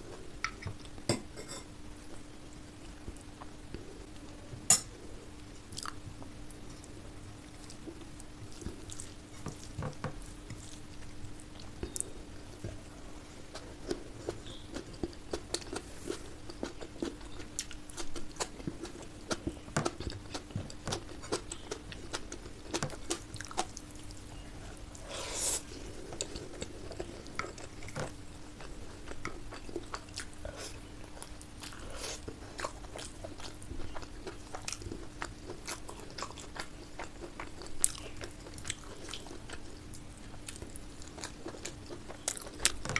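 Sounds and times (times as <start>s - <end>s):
steady low hum: 0.0s - 42.9s
person chewing food: 5.7s - 7.0s, 7.6s - 42.9s.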